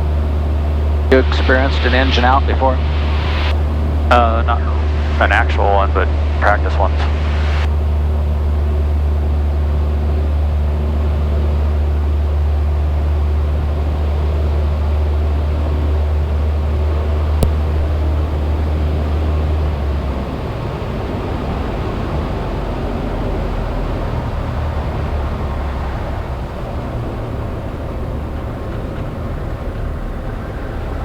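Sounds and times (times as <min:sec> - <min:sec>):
propeller engine droning: 0:00.0 - 0:31.0.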